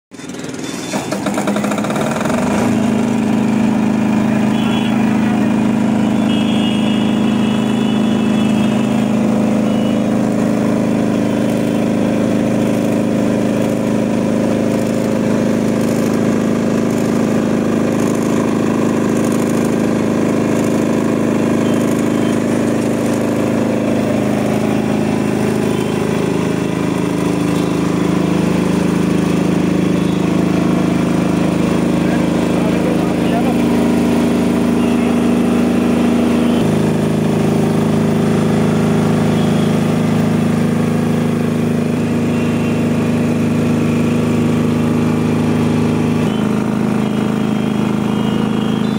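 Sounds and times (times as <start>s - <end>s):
diesel generator engine running: 0.1s - 48.9s
electric starter cranking: 0.2s - 4.2s, 9.0s - 48.9s.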